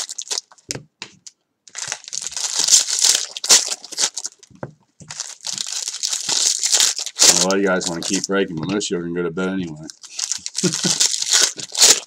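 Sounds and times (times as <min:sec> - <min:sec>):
foil wrapper crinkling: 0:00.0 - 0:00.7, 0:01.7 - 0:08.5, 0:09.8 - 0:12.0.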